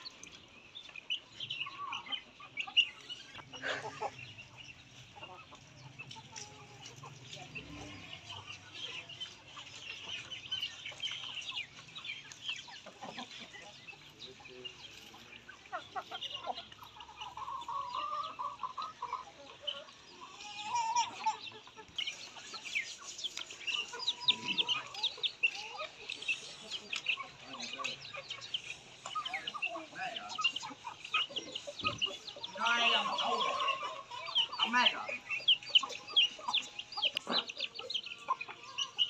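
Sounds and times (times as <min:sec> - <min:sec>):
chickens clucking: 0:00.0 - 0:39.0
chicks peeping: 0:00.0 - 0:39.0.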